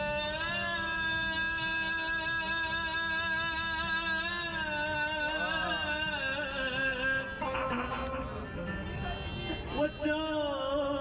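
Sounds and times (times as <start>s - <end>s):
oud accompanying: 0.0s - 11.0s
violin playing long gliding notes: 0.0s - 11.0s.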